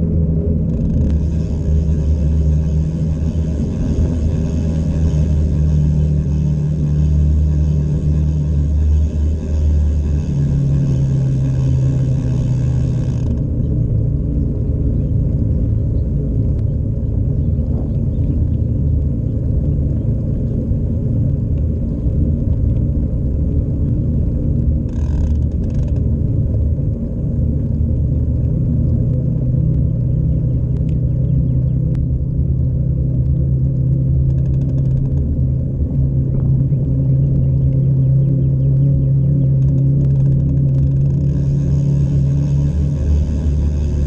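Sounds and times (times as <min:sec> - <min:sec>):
bicycle tyres on asphalt: 0:00.0 - 0:44.0
wind buffeting microphone: 0:00.0 - 0:44.0.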